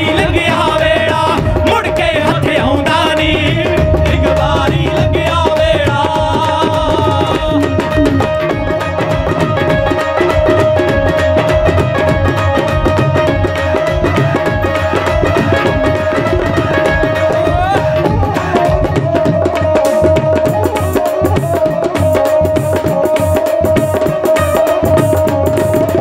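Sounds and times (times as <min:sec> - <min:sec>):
hand drums fast rhythm: 0:00.0 - 0:26.0.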